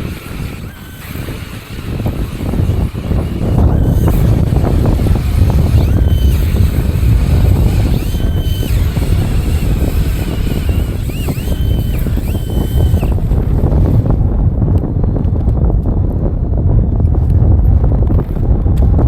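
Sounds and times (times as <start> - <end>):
blizzard wind on microphone: 0.0 - 19.0
high wind whistles: 0.0 - 19.0.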